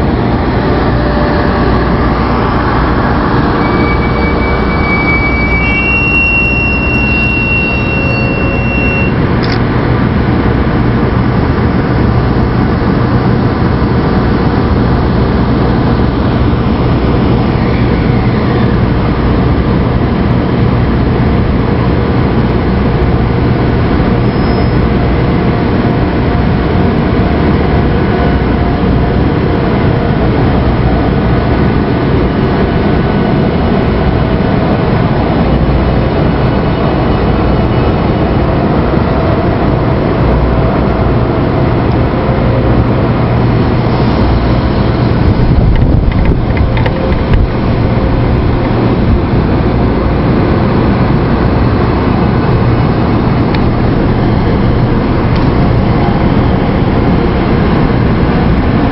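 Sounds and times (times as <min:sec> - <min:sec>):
train wheels rumbling: 0:00.0 - 0:58.9.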